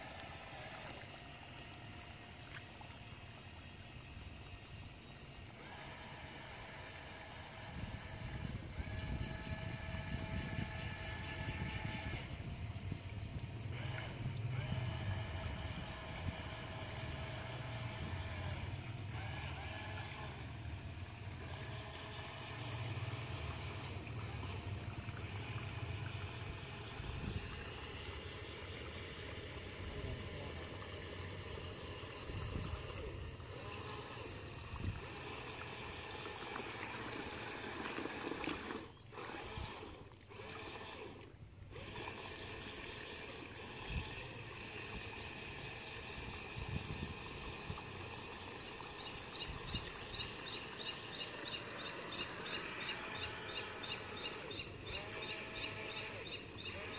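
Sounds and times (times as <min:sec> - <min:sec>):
water churning from spinning wheels: 0:00.0 - 0:56.9.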